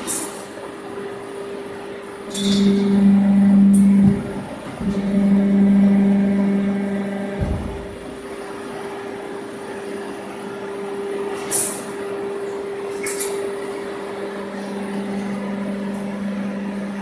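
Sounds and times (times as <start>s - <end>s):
machine motor hum: 0.6s - 17.0s.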